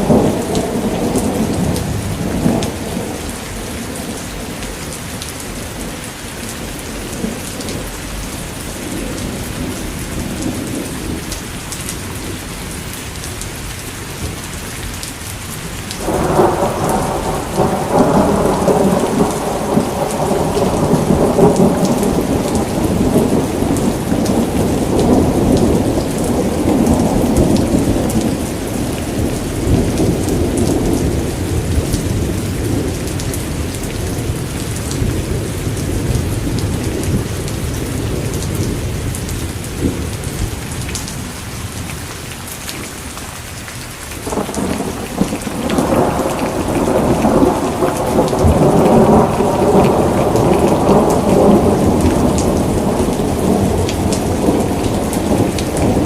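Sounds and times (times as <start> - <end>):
thunder rumbling: 0.0 - 11.4, 16.0 - 41.9, 44.2 - 56.0
steady rain falling: 0.0 - 56.0.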